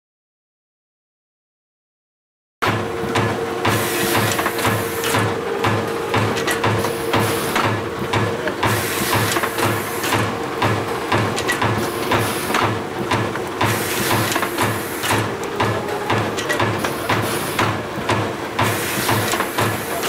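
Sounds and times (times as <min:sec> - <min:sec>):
machine clattering with low thuds: 0:02.6 - 0:20.0
machine hum: 0:02.6 - 0:20.0.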